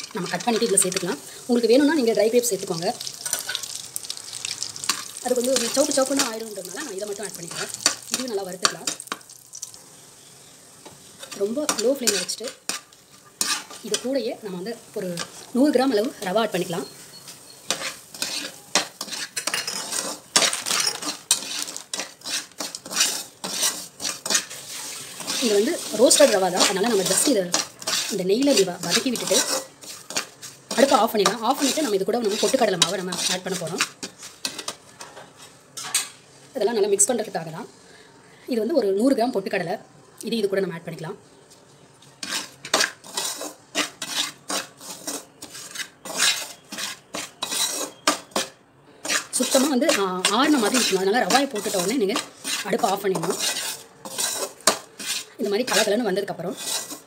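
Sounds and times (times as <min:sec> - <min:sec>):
metal spatula scraping a pan: 0:00.0 - 0:09.2, 0:10.0 - 0:36.2, 0:42.2 - 0:57.0.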